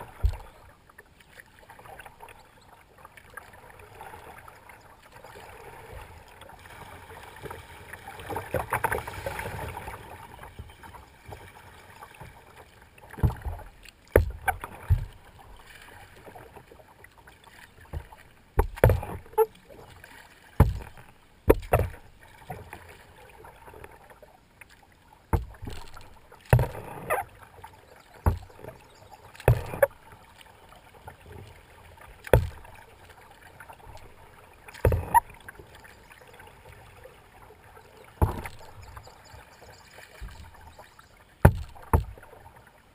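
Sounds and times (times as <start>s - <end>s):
paddle splashes in water: 0.0s - 42.9s
rush of water: 0.0s - 42.9s.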